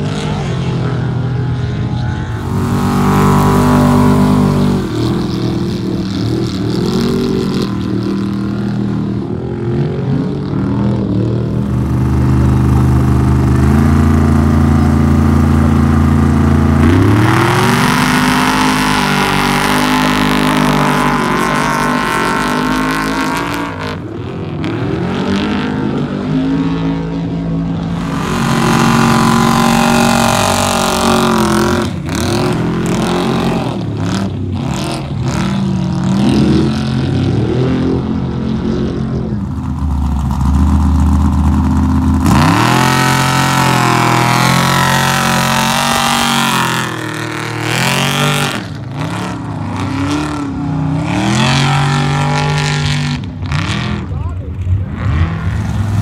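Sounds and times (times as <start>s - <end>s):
race truck engines revving: 0.0s - 56.0s.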